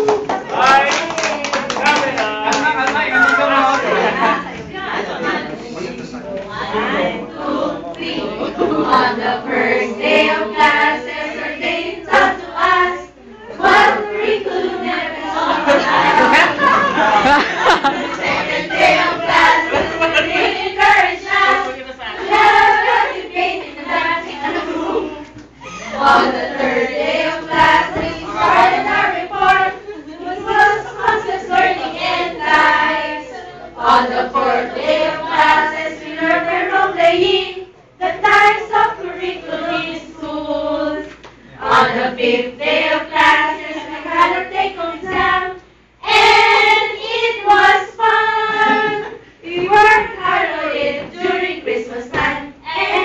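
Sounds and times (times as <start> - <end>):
group of voices singing: 3.1 - 53.0.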